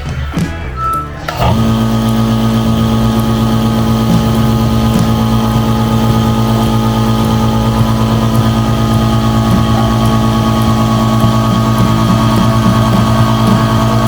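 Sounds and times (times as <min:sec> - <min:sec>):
air compressor running: 0:01.2 - 0:14.0.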